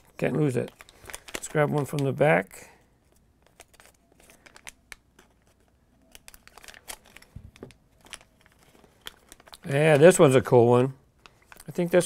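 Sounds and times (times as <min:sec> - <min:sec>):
plastic packet crinkling and tearing: 0:00.0 - 0:02.6, 0:03.4 - 0:12.0.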